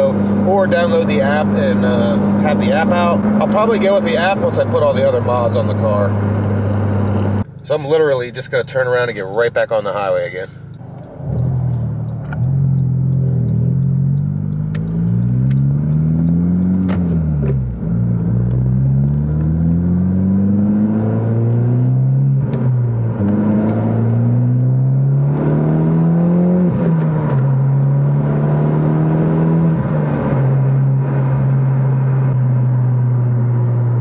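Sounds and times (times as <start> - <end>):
car engine accelerating hard: 0.0 - 34.0.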